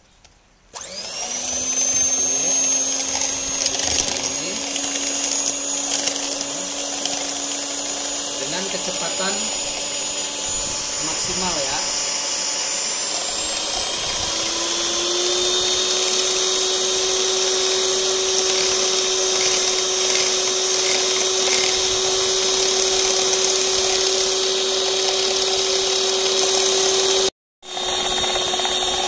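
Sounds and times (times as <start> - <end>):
electric hand mixer whine: 0.7 - 29.0.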